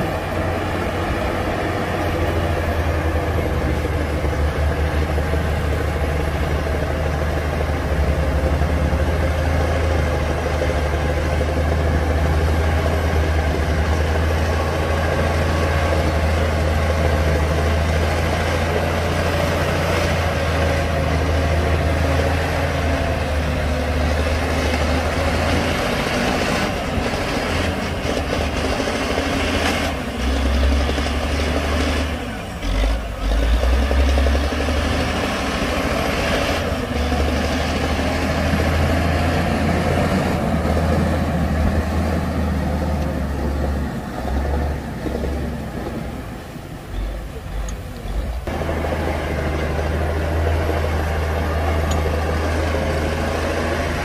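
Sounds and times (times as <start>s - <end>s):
heavy diesel engine drone: 0.0s - 54.0s.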